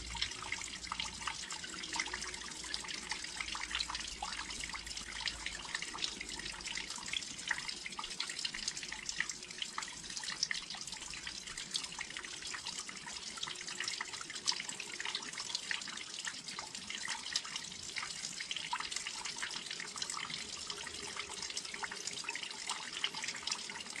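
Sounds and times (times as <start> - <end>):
rain dripping on a windowsill: 0.0 - 24.0.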